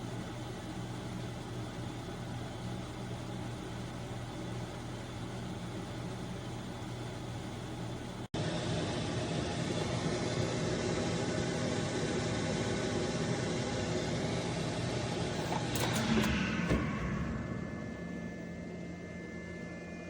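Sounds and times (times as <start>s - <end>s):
oven fan humming: 0.0s - 20.0s.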